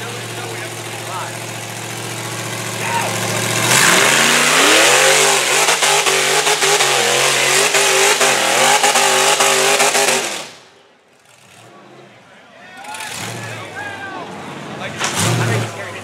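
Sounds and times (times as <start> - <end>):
buggy engine revving hard: 0.0 - 12.1, 12.9 - 13.8, 14.4 - 16.0.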